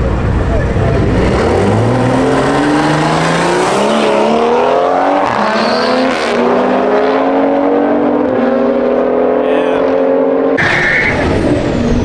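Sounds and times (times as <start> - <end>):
drag racing cars accelerating: 0.0 - 12.0.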